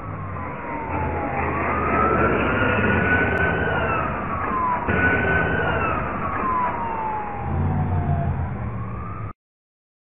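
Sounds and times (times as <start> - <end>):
low engine rumble: 0.0 - 9.3
road noise: 0.0 - 9.4
siren wailing: 0.0 - 9.4.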